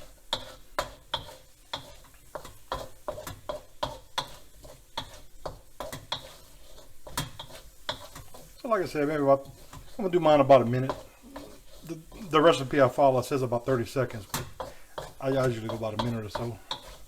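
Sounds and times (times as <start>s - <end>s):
utensil scraping a wok: 0.0s - 17.0s.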